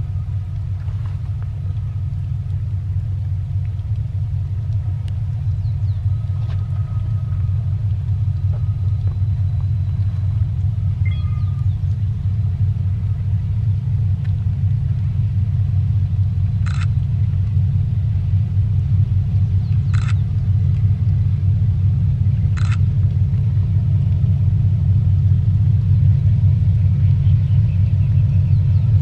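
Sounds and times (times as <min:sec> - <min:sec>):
diesel locomotive engine rumble: 0:00.0 - 0:29.0.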